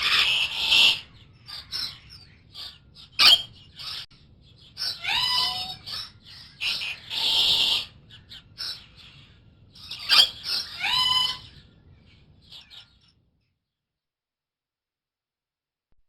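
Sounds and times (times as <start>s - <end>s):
bird squawks and ringing calls: 0.0s - 13.0s
bird chirps: 0.0s - 13.2s.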